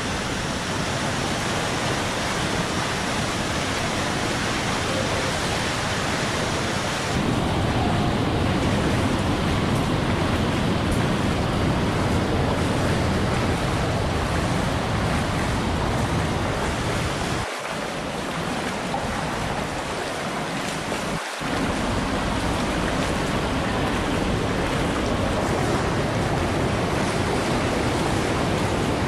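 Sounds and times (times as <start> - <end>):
waterfall rushing water: 0.0 - 29.0.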